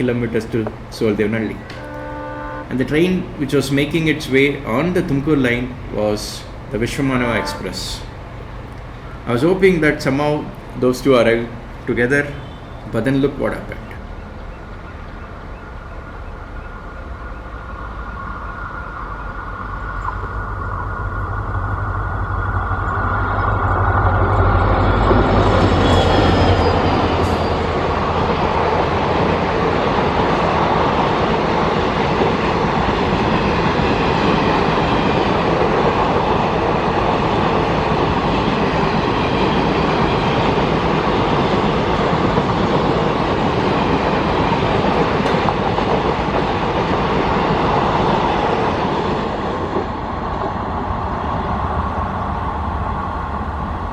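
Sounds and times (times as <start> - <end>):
train passing: 0.0 - 53.9
wheels rumbling on rail: 0.0 - 53.9.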